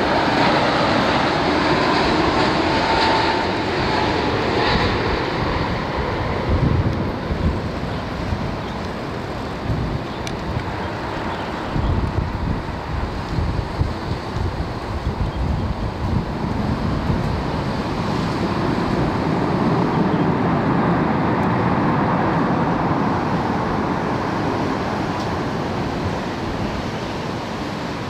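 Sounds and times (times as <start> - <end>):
jet engine rush: 0.0 - 28.0.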